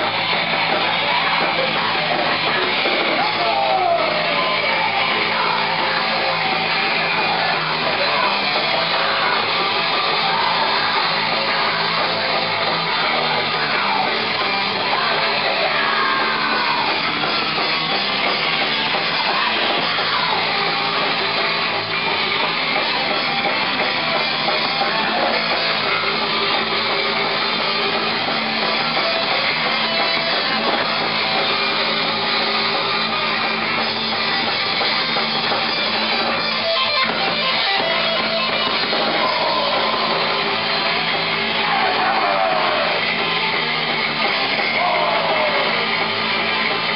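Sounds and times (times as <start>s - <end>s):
bent guitar notes: 0.0s - 46.9s
distorted electric guitar riffing: 0.0s - 46.9s
drum kit: 0.0s - 46.9s.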